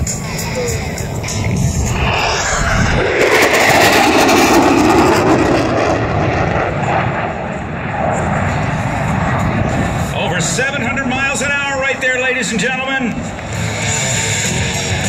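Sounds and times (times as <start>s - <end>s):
jet roaring past: 0.0s - 15.0s.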